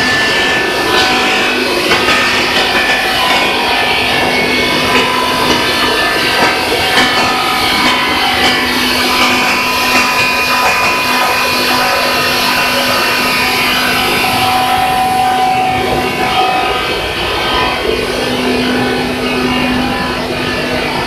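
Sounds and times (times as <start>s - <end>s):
loud machine drone: 0.0s - 21.0s.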